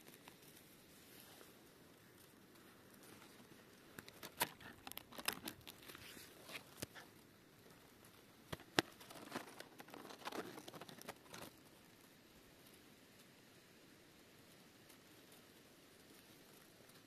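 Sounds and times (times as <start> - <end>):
faint crackles and clicks: 0.0 - 17.0
moss and forest litter rustling: 0.0 - 17.0.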